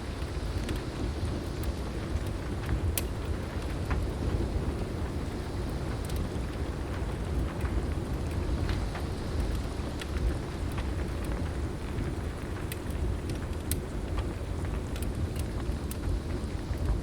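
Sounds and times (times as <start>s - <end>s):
heavy rain: 0.0s - 17.0s
log fire crackling: 0.0s - 17.0s.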